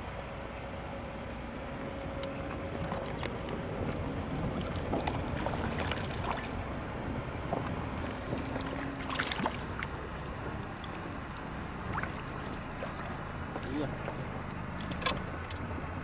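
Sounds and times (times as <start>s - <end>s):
wind rumbling on microphone: 0.0s - 16.0s
small clicks and rustles: 2.0s - 15.7s.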